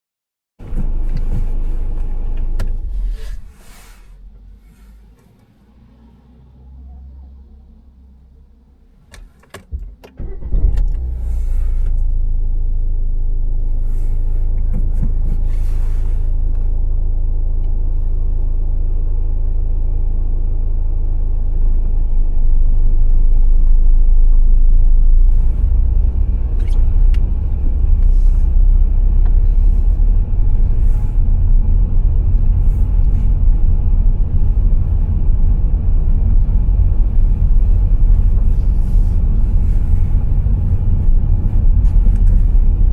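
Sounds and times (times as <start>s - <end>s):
car driving rumble: 0.6s - 42.9s.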